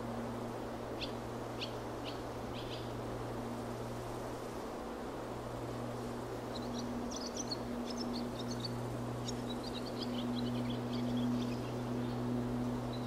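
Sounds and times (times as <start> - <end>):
airplane drone: 0.0 - 13.0.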